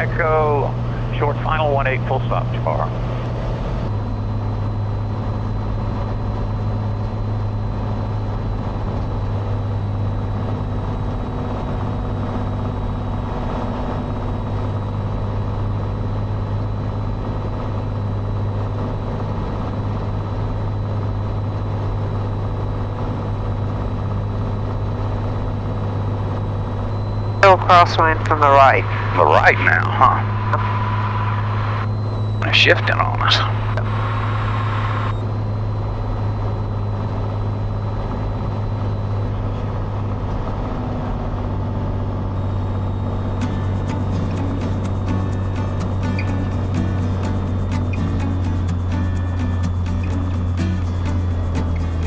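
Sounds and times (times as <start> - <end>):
airplane engine droning: 0.0 - 52.0.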